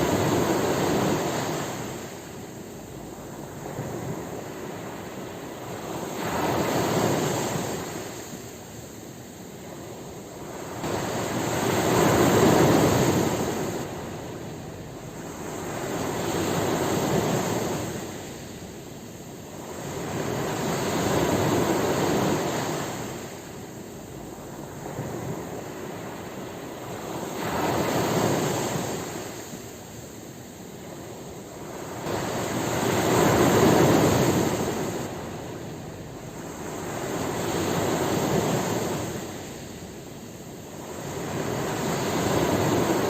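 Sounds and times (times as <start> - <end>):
ocean waves breaking on shore: 0.0 - 43.0.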